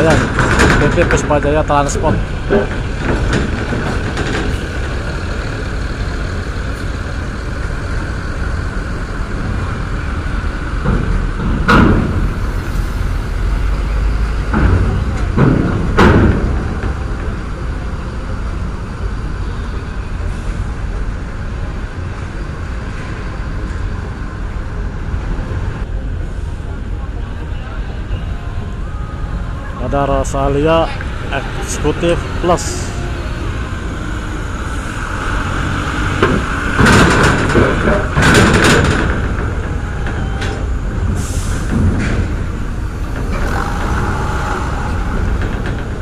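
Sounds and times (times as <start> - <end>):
diesel bus engine running: 0.0 - 46.0.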